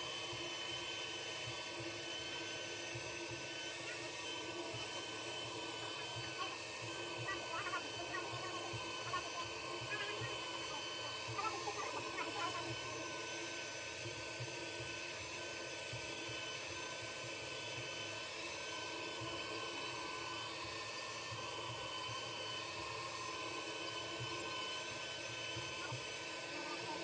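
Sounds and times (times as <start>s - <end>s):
suction fan whining: 0.0s - 27.0s.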